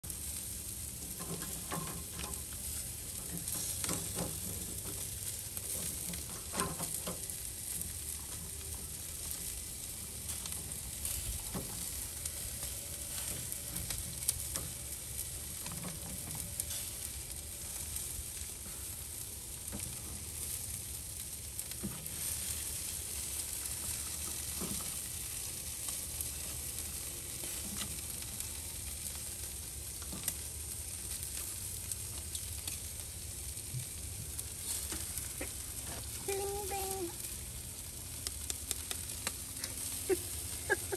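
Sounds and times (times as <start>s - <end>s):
food sizzling on a grill: 0.0s - 40.9s.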